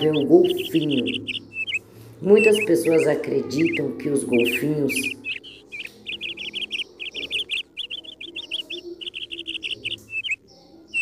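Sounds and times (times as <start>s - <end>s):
dolphin chirping: 0.0s - 11.0s.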